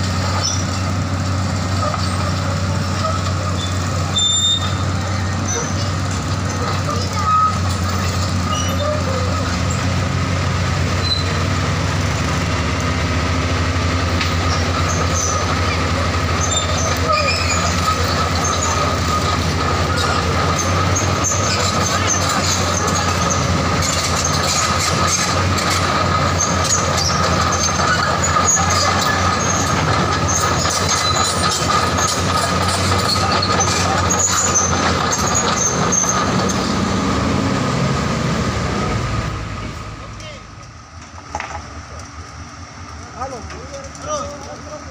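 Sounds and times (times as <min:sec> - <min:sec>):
crawler tracks squealing and clattering: 0:00.0 - 0:44.9
excavator running: 0:00.0 - 0:44.9.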